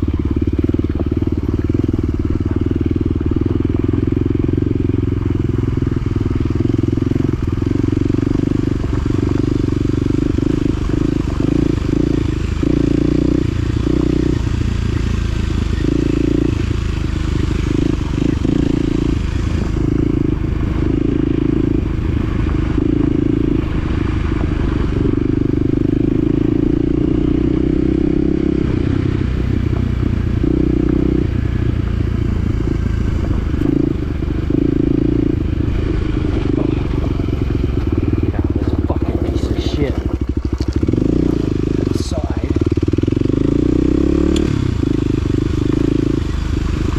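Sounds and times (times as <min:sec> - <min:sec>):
utility vehicle engine revving: 0:00.0 - 0:46.9.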